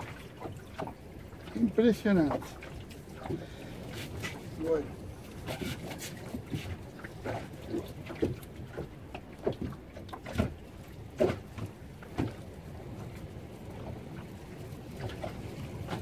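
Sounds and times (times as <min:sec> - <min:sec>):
waves slapping boat hull: 0:00.0 - 0:16.0.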